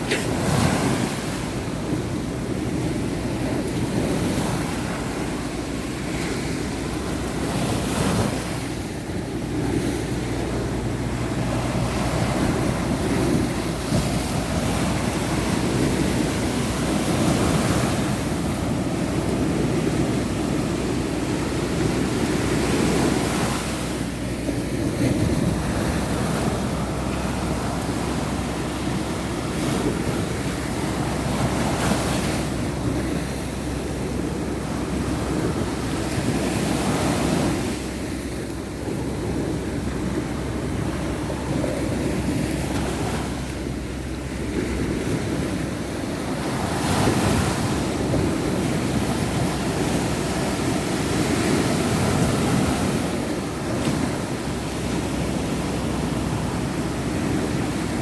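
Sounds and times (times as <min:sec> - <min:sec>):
sea waves washing onto beach: 0:00.0 - 0:58.0
wind buffeting microphone: 0:00.0 - 0:58.0.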